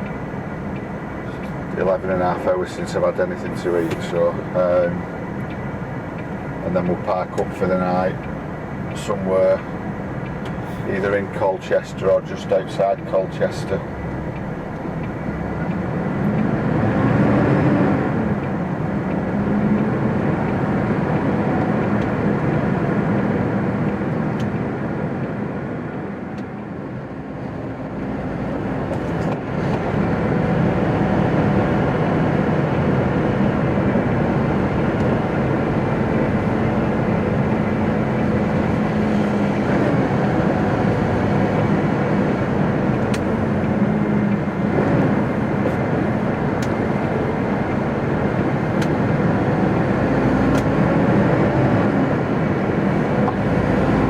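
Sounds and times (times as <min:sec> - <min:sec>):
truck engine hum from cab: 0:00.0 - 0:54.0.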